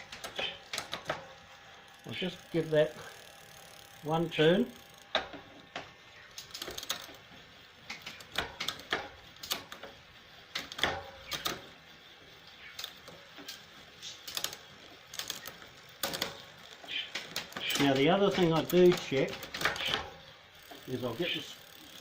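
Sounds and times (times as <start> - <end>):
bicycle chain clicking: 0.0 - 22.0.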